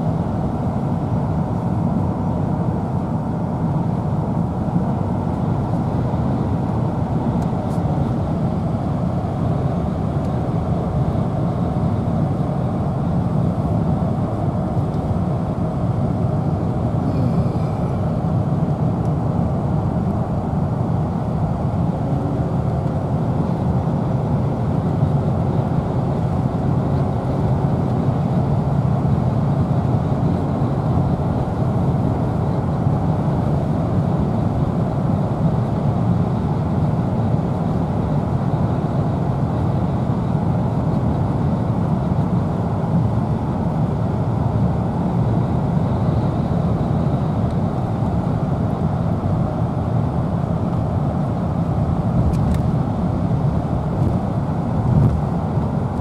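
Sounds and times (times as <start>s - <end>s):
car road noise inside cabin: 0.2s - 56.0s.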